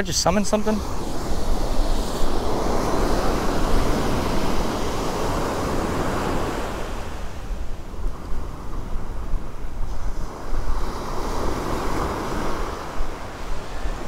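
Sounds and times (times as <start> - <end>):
surf washing up a beach: 0.0 - 14.0
wind rumbling on microphone: 0.0 - 14.0.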